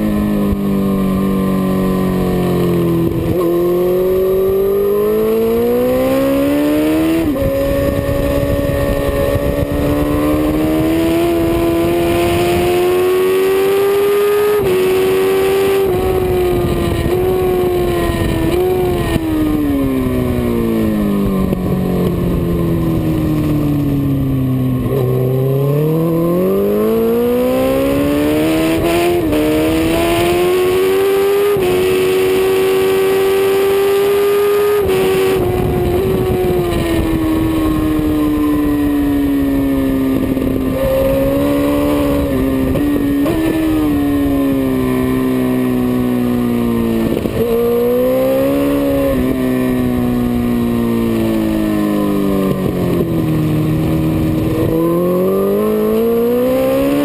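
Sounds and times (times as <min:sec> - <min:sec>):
motorcycle engine revving: 0:00.0 - 0:57.0
rushing wind noise: 0:00.0 - 0:57.0.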